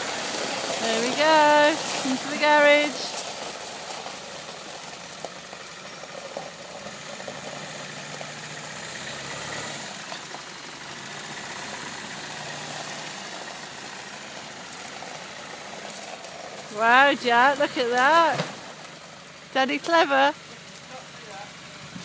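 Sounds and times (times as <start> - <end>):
diesel engine running at low revs: 0.0 - 22.0.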